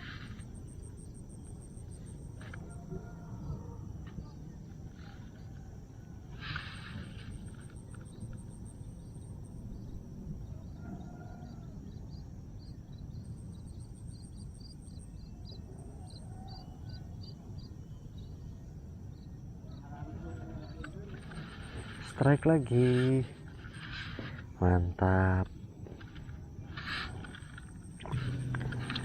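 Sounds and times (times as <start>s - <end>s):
insect short chirps: 0.0s - 29.0s
insect trill: 0.0s - 29.0s
low outdoor rumble: 0.0s - 29.0s.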